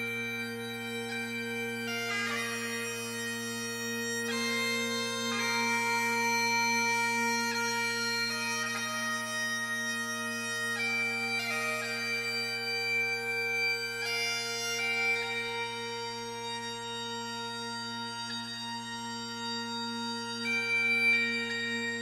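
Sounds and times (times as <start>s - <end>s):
bagpipes playing slow tune: 0.0s - 22.0s.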